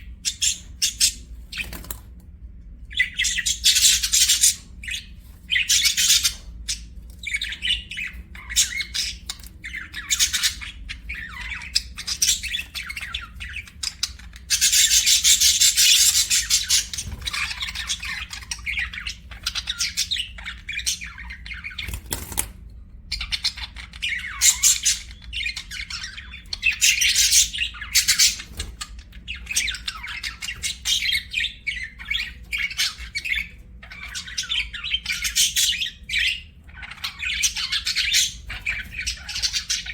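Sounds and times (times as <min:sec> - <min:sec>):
budgerigars chirping: 0:00.0 - 0:02.0, 0:02.9 - 0:22.5, 0:23.1 - 0:39.9.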